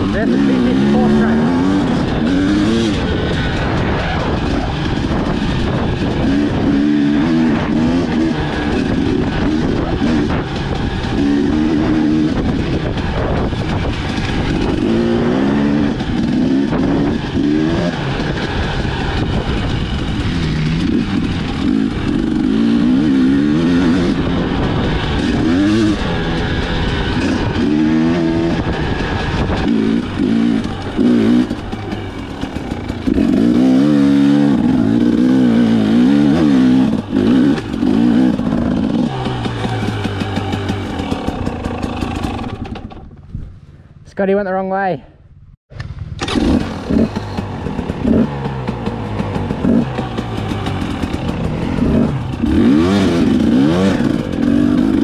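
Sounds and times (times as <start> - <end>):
dirt bike engine revving: 0.0 - 43.3, 46.2 - 55.0.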